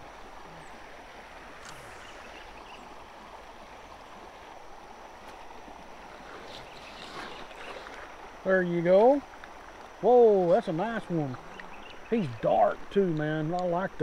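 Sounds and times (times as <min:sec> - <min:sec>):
river flowing over gravel: 0:00.0 - 0:14.0.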